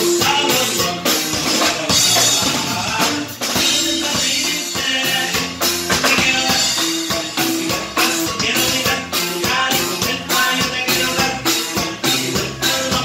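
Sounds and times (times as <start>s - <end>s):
drum kit steady beat: 0.0s - 13.0s.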